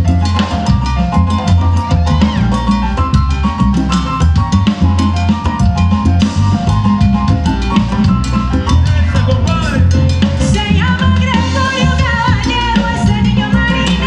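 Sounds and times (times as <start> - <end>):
congas and percussion: 0.0 - 14.0
live latin dance band: 0.0 - 14.0.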